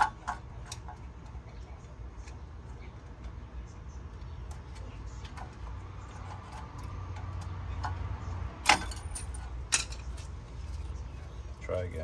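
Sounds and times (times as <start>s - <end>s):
small metallic clicks and scrapes: 0.0s - 3.5s, 4.1s - 11.6s.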